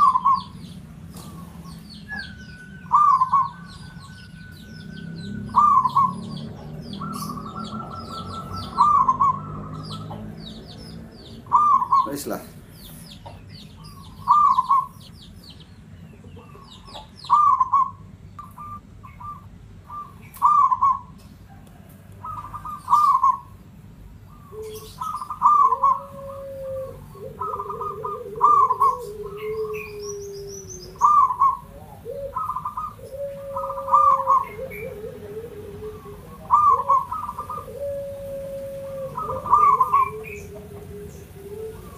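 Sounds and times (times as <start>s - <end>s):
lower wavering bird call: 0.0s - 12.2s, 13.8s - 15.1s, 16.5s - 21.2s, 22.2s - 23.6s, 24.3s - 41.9s
doves cooing: 0.0s - 41.9s
small birds chirping: 0.0s - 41.9s.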